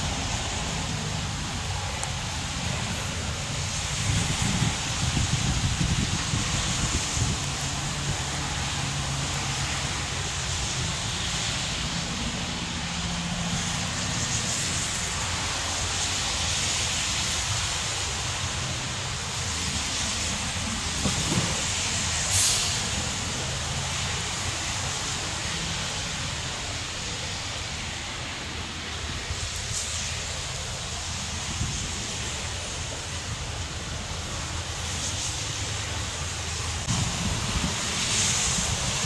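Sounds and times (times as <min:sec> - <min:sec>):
passenger train rumbling: 0:00.0 - 0:39.0
sharp hiss: 0:00.0 - 0:39.0.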